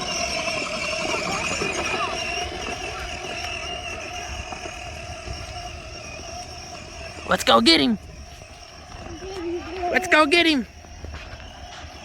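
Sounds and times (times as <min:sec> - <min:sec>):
toy tractor motor hum: 0:00.0 - 0:12.0.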